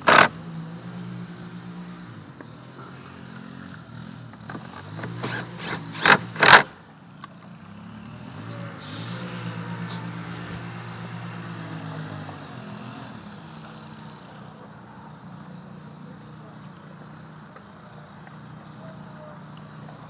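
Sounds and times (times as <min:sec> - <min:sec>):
engine passing by: 0:00.0 - 0:06.8, 0:07.5 - 0:20.0.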